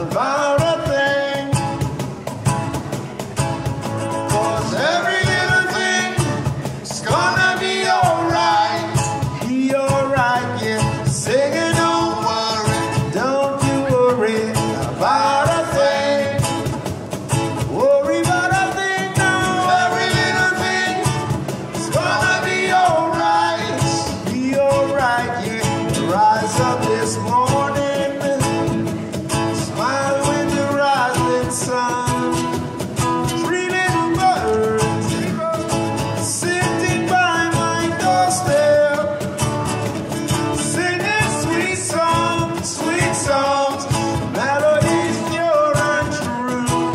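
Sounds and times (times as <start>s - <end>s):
man singing: 0.0s - 1.8s, 4.2s - 16.7s, 17.6s - 28.9s, 29.5s - 39.4s, 40.3s - 46.9s
cajon: 0.0s - 46.9s
strummed acoustic guitars: 0.0s - 46.9s.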